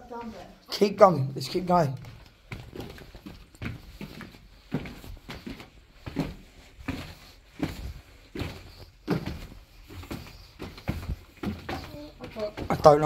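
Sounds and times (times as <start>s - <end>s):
footsteps going down stone steps: 0.0s - 13.0s.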